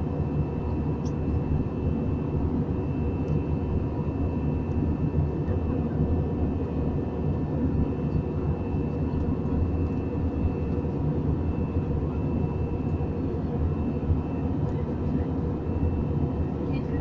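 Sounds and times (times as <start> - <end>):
airliner engines and airflow drone: 0.0 - 17.0.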